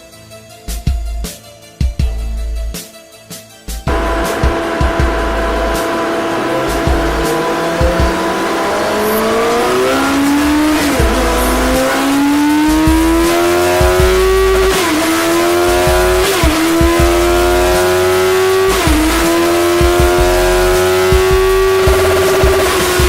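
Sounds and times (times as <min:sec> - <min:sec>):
motorcycle engine at high revs: 0:03.9 - 0:23.0.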